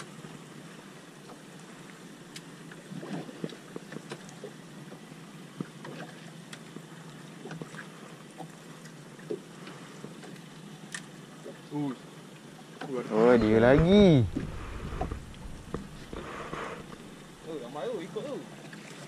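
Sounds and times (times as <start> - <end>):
water lapping against a boat: 0.0 - 19.0.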